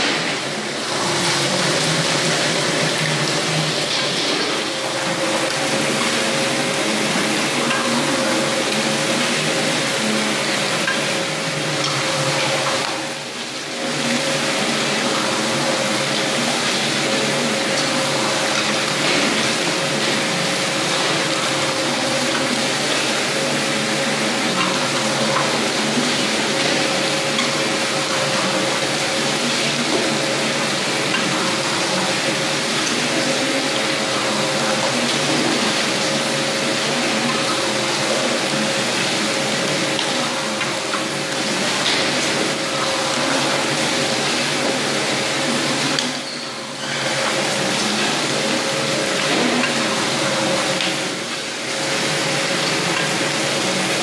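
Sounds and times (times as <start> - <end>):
filleting machine hissing: 0.0 - 54.0
machine hum: 0.0 - 54.0.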